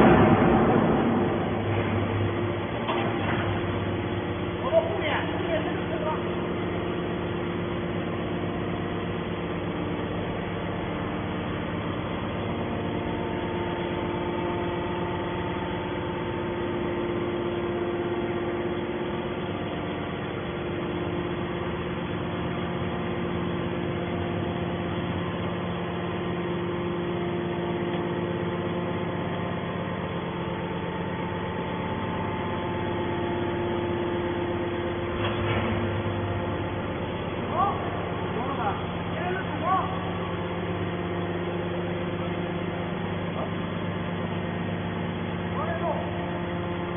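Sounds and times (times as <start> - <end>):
baler engine running: 0.0 - 46.9.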